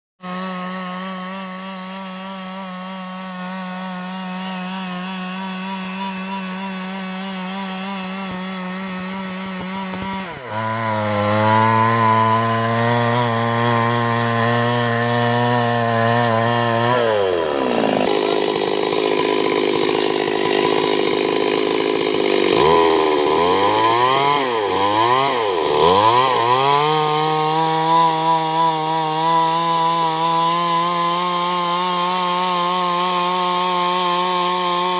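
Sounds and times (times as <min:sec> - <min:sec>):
chainsaw cutting wood: 0:00.2 - 0:34.9
chainsaw revving: 0:00.2 - 0:34.9.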